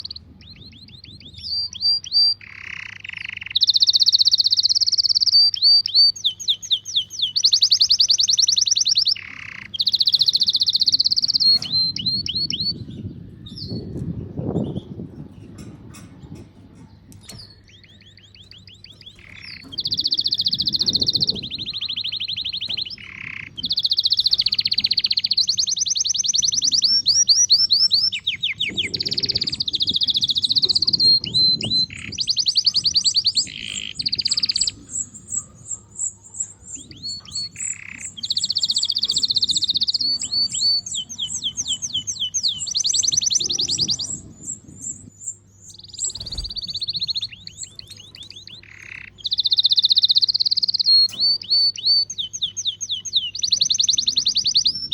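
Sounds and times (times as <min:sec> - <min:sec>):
canaries singing trills: 0:00.0 - 0:54.9.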